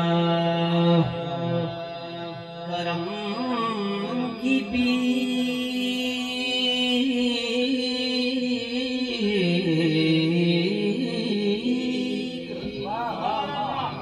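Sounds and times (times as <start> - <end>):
man singing: 0.0 - 14.0.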